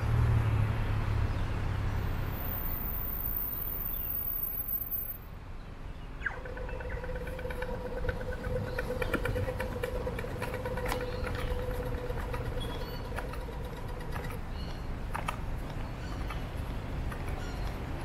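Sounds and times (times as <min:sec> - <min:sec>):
engine hum: 0:00.0 - 0:05.2, 0:06.0 - 0:18.0
traffic rumble: 0:00.0 - 0:18.0.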